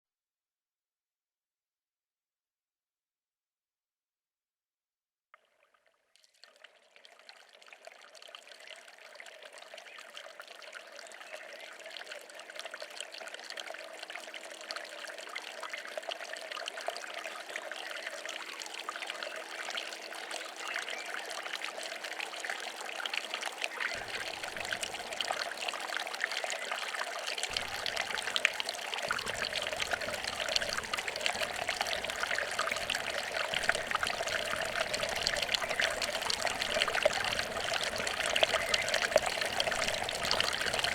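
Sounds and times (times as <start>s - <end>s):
stream water trickling: 5.4s - 40.9s.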